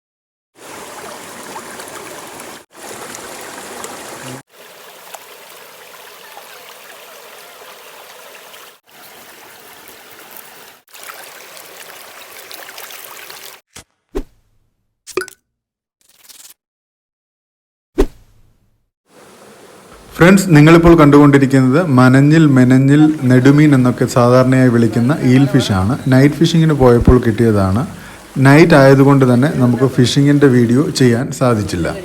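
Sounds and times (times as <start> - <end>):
running water rushing: 0.6 - 13.6, 19.1 - 32.0.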